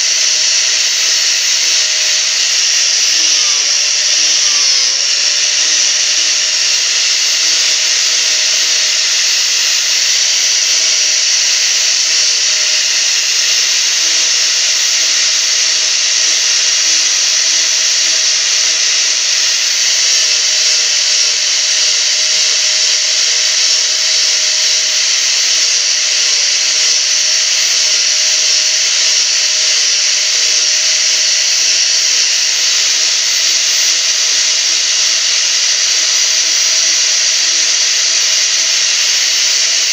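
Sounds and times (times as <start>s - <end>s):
angle grinder grinding wood: 0.0s - 39.9s.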